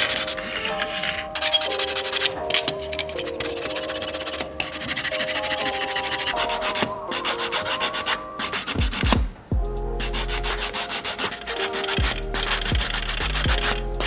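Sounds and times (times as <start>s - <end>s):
sandpaper rubbing: 0.0s - 9.0s, 10.0s - 14.0s
tune playing: 0.0s - 14.0s.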